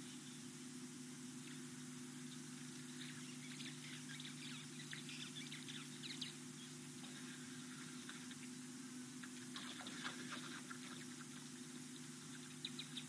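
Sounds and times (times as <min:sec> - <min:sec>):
steady low hum: 0:00.0 - 0:13.0
small birds chirping: 0:01.4 - 0:13.0.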